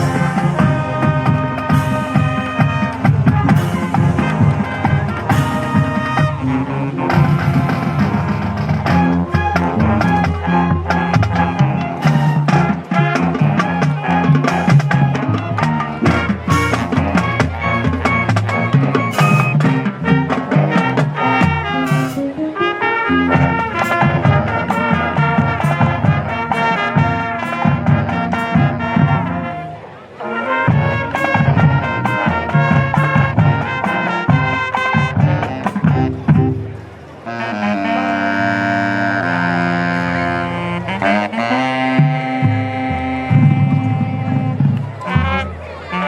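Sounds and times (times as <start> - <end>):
marching drums: 0.0 - 22.4, 23.0 - 36.8, 42.0 - 46.0
marching band playing: 0.0 - 46.0.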